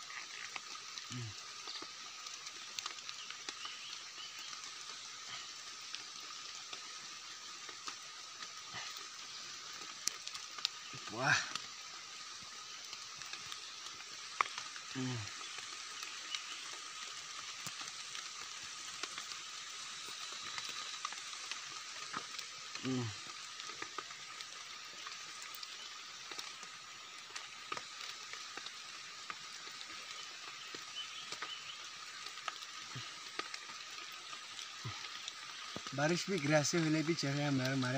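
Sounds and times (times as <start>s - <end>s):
background hiss: 0.0s - 37.9s.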